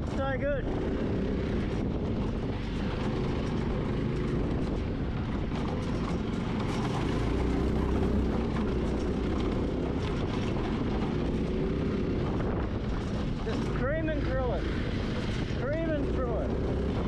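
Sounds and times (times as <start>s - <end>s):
buggy engine running: 0.0s - 17.0s.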